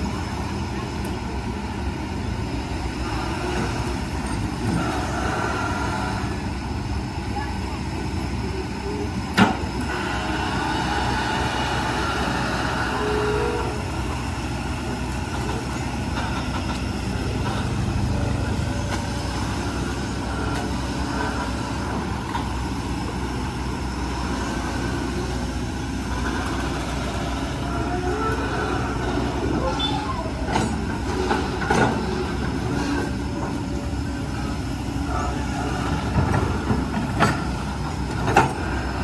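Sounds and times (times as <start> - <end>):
diesel engine rumbling: 0.0 - 39.0.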